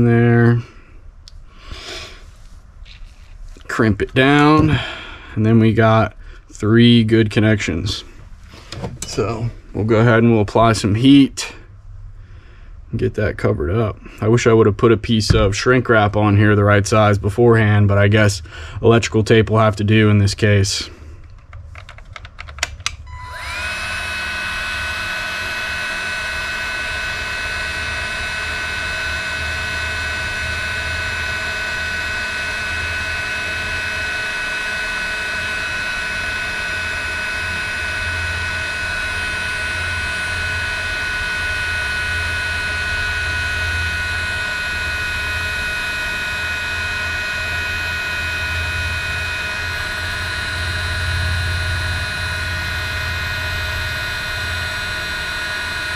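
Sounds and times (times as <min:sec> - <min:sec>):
heat gun fan whine: 0:00.0 - 0:55.9.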